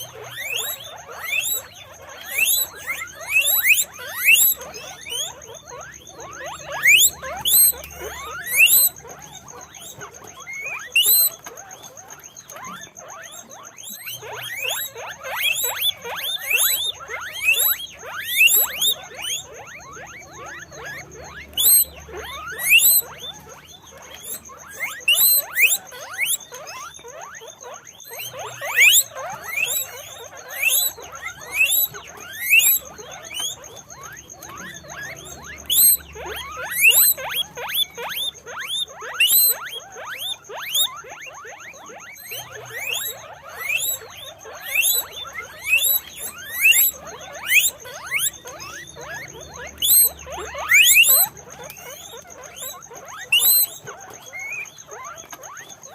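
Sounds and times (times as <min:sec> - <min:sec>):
guinea pigs squeaking: 0:00.0 - 0:55.9.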